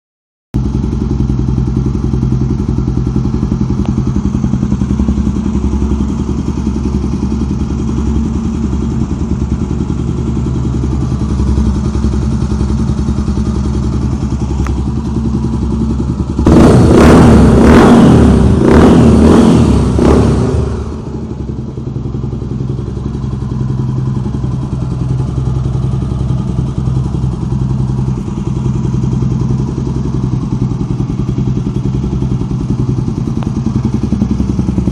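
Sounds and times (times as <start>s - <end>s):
motorcycle engine idling and revving: 0.6s - 34.9s.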